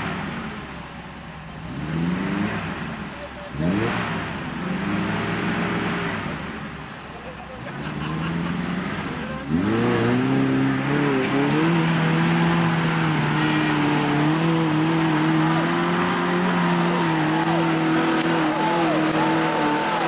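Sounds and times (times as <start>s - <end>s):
car engine revving hard: 0.0s - 7.0s, 7.6s - 20.0s.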